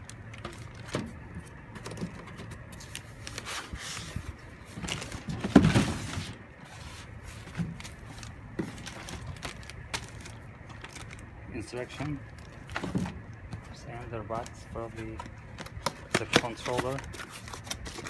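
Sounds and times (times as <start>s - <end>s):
foam and cardboard rustling: 0.1s - 18.0s.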